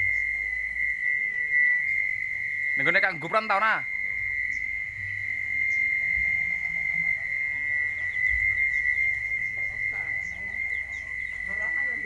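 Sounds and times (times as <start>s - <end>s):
electric water pump whine: 0.0s - 12.0s.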